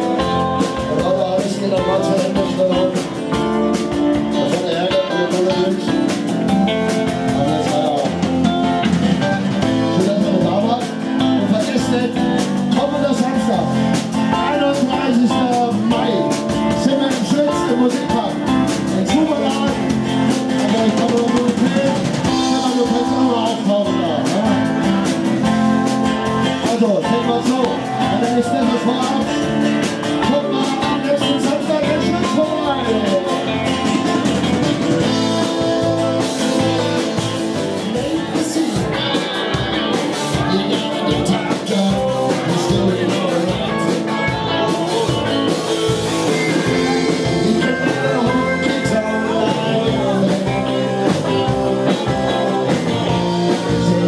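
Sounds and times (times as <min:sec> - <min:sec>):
drum kit: 0:00.0 - 0:54.0
electric guitar: 0:00.0 - 0:54.0
man singing: 0:00.0 - 0:54.0.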